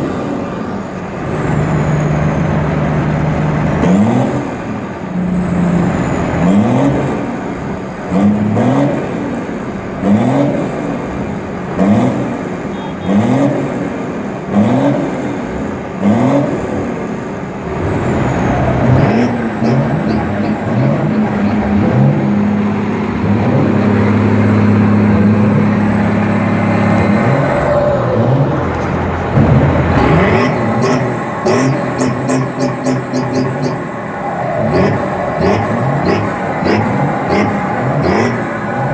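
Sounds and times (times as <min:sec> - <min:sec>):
tractor engines revving: 0:00.0 - 0:38.9.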